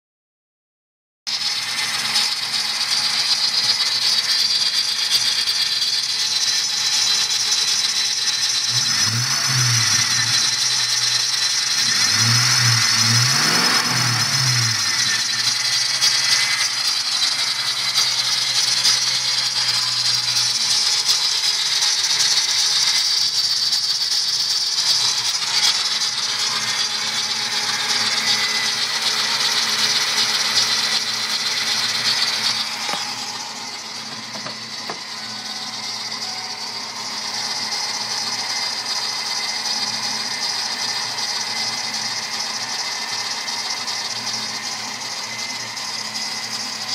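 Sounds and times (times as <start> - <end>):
car engine idling and revving: 1.3 - 46.9
high-pitched squeal: 1.3 - 46.9.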